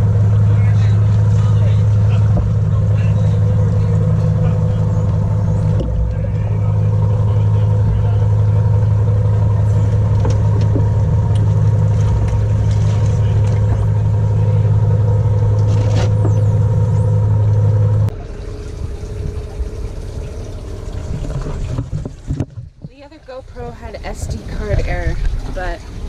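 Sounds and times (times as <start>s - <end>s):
low mechanical motor hum: 0.0s - 26.0s
water: 0.0s - 26.0s
wind: 0.0s - 26.0s.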